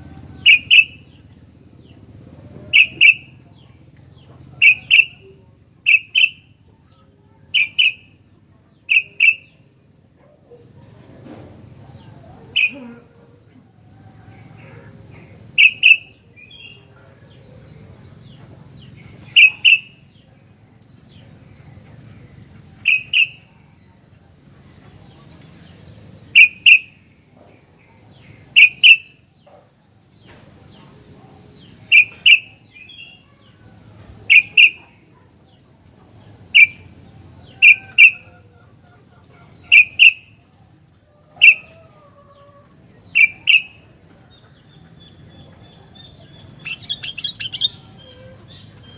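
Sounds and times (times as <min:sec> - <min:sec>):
bulbul calling: 0:00.0 - 0:06.6, 0:07.4 - 0:09.7, 0:10.5 - 0:12.9, 0:14.0 - 0:20.4, 0:21.0 - 0:24.0, 0:24.6 - 0:29.5, 0:30.2 - 0:40.6, 0:41.3 - 0:48.9.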